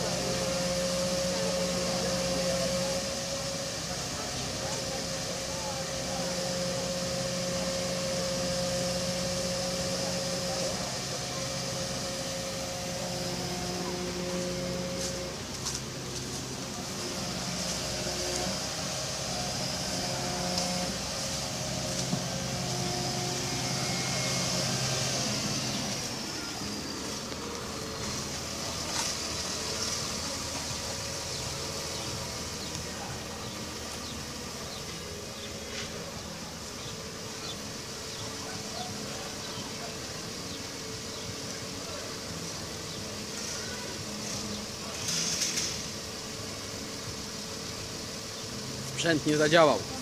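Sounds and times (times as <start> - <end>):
truck engine humming: 0.0 - 50.0.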